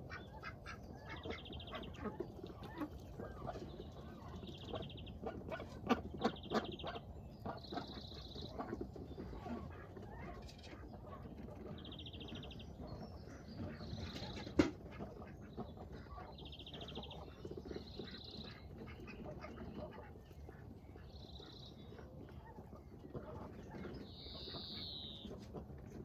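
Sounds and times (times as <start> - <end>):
ducks chattering: 0.0 - 26.0.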